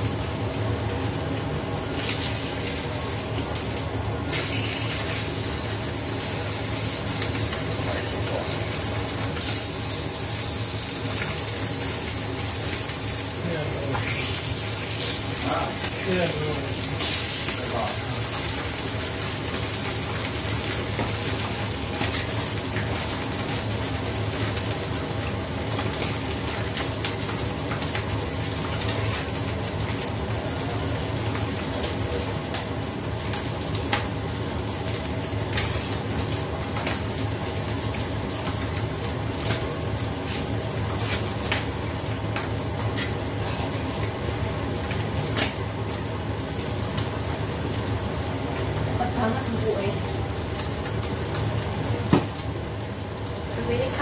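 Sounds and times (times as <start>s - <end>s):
fish frying in oil: 0.0s - 54.0s
vegetables boiling in a wok: 0.0s - 54.0s.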